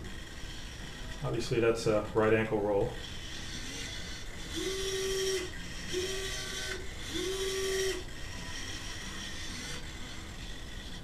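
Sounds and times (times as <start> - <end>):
robot motor whining: 0.0 - 11.0.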